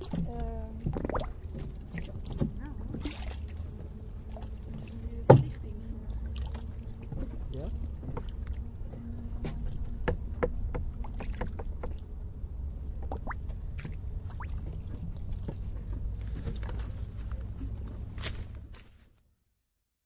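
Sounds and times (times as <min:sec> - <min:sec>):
water bubbling and lapping: 0:00.0 - 0:18.2
low water rumble: 0:00.0 - 0:18.8.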